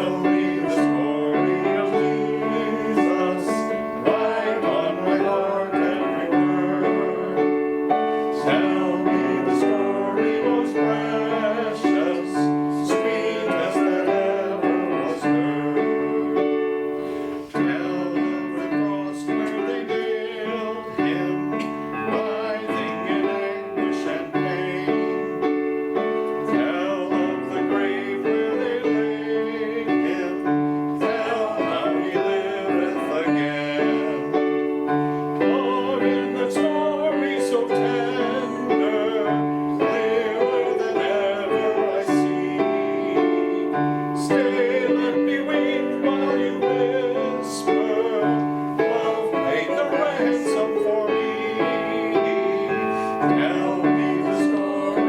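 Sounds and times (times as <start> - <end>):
voices singing a hymn: 0.0 - 55.0.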